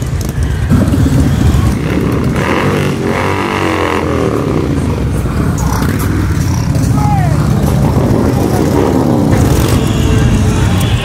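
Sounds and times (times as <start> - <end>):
motorcycle engines rumbling past: 0.0 - 11.0.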